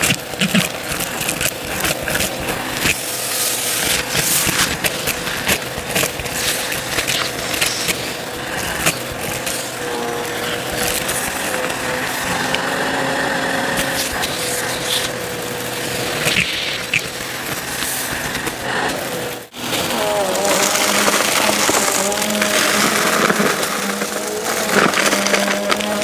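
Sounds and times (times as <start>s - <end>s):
debris clicking in vacuum: 0.0s - 26.0s
vacuum cleaner motor whine: 0.0s - 26.0s.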